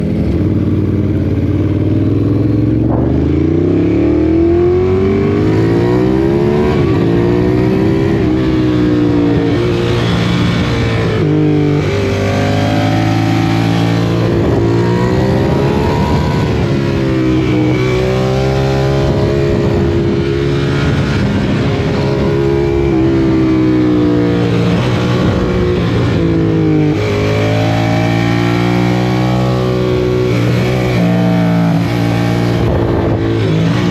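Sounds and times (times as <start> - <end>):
loud engine revving: 2.0 - 33.9.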